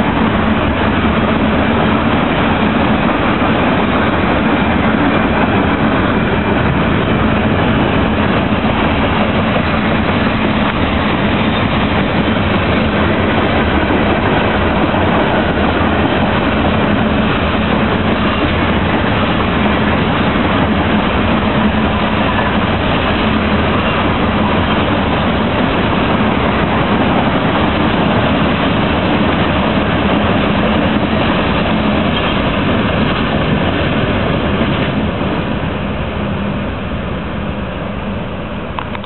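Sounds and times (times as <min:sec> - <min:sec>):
train wheels rolling on rail: 0:00.0 - 0:39.0.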